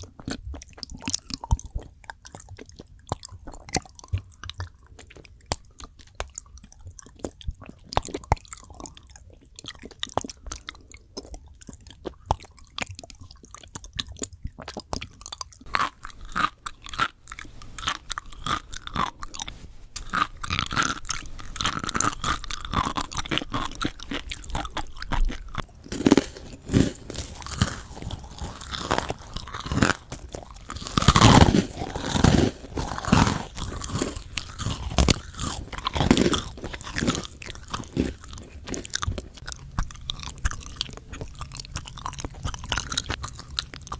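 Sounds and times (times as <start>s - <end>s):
crunching bites and chewing: 0.0s - 43.9s.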